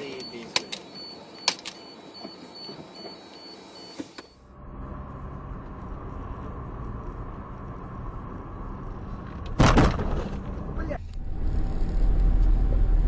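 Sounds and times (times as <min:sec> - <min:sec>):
road noise inside vehicle: 0:00.0 - 0:13.0.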